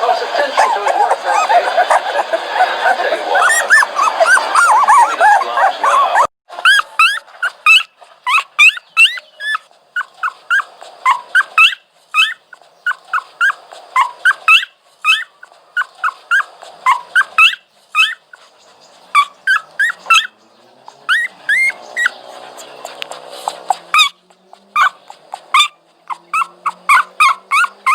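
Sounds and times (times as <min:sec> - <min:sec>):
dog whining and yipping: 0:00.4 - 0:18.4, 0:19.1 - 0:20.3, 0:21.1 - 0:22.2, 0:23.4 - 0:24.2, 0:24.8 - 0:27.9.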